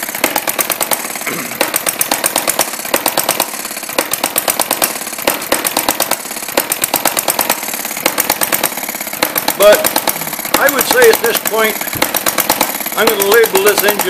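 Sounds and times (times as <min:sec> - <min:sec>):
engine firing beats: 0:00.0 - 0:14.0
small model engine clattering: 0:00.0 - 0:14.0.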